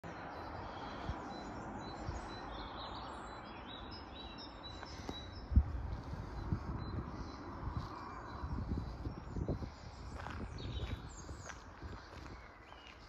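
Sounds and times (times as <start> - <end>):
small birds chirping: 0.0 - 13.0
steady background noise: 0.0 - 13.0.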